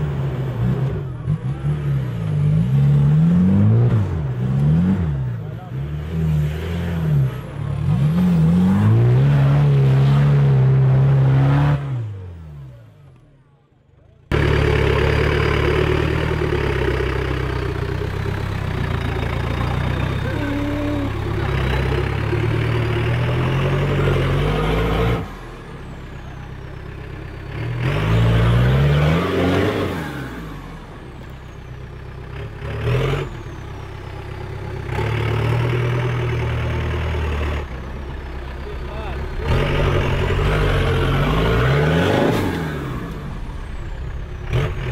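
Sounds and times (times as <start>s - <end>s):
pickup truck engine revving: 0.0s - 12.8s, 14.3s - 26.4s, 27.1s - 31.4s, 34.6s - 44.9s.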